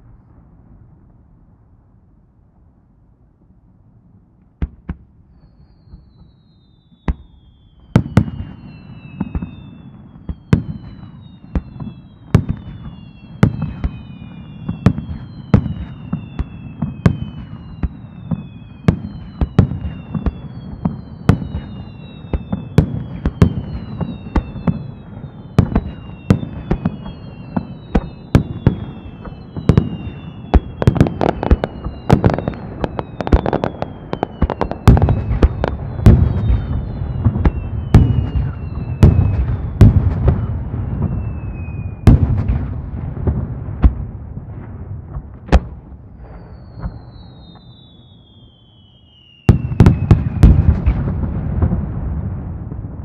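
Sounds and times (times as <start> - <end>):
falling whistling fireworks: 0.0 - 53.0
fireworks bursting: 4.6 - 53.0.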